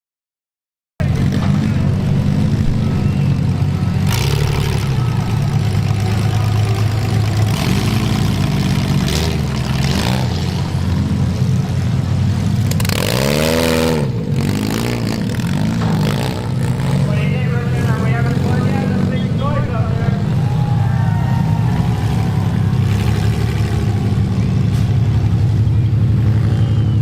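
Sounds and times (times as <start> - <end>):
car engines revving: 1.0 - 27.0.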